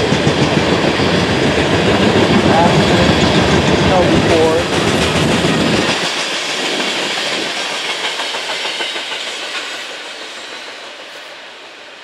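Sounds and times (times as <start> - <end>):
train wheel clicks: 0.0 - 11.9
train wheels hissing on rails: 0.0 - 12.0.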